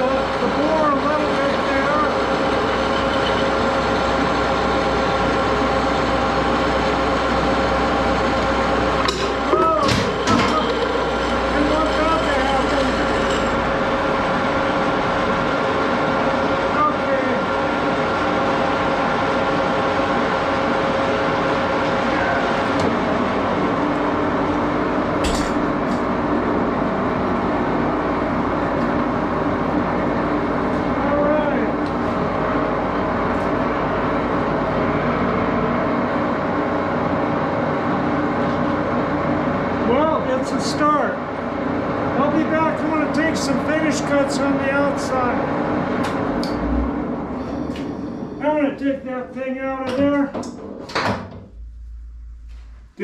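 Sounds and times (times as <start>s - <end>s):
lathe running: 0.0s - 48.4s.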